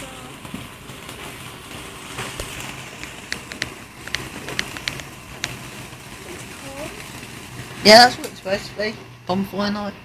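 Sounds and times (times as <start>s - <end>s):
sharp pops: 0.0s - 8.7s
firework fountain hissing and crackling: 0.0s - 10.0s.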